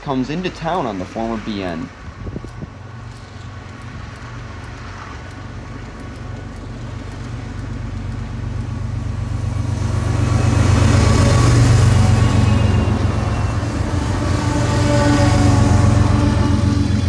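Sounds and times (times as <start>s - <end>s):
diesel locomotive engines humming: 0.0s - 17.0s.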